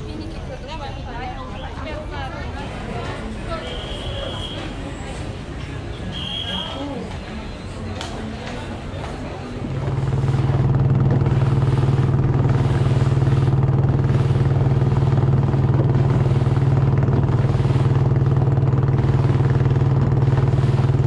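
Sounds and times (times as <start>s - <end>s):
boat engine running steadily: 0.1s - 21.0s.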